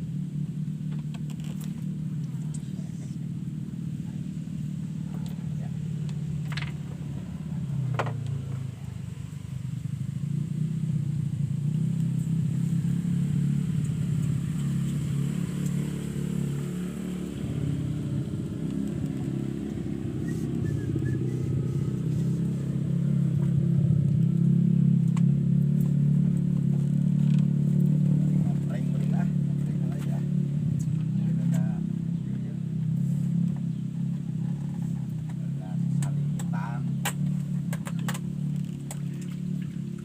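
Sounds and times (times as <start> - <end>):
engine humming: 0.0 - 40.0.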